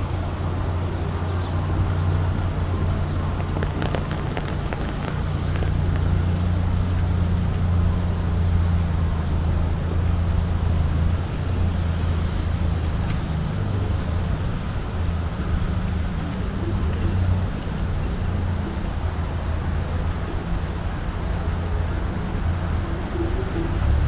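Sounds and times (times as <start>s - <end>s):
city street traffic rumble: 0.0s - 24.0s.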